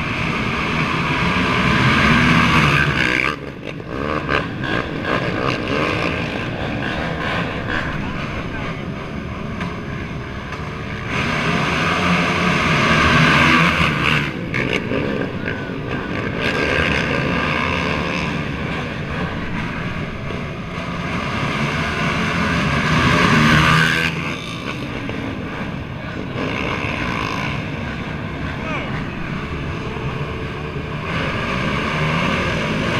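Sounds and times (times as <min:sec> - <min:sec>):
atv engines revving: 0:00.0 - 0:32.9.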